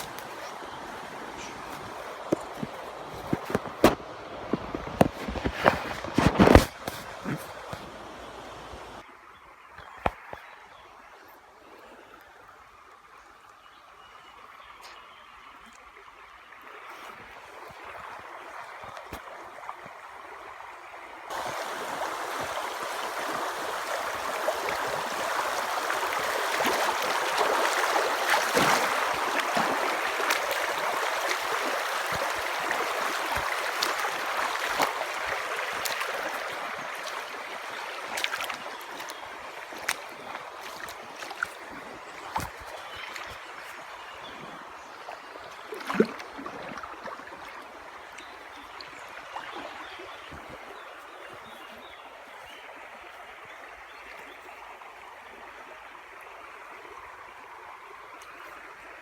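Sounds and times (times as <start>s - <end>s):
stream water rushing and gurgling: 0.0s - 59.0s.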